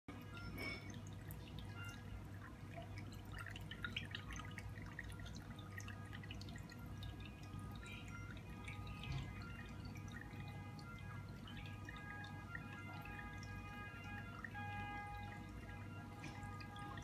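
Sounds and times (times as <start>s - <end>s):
aquarium water trickling: 0.1s - 17.0s
small water splashes: 0.1s - 17.0s.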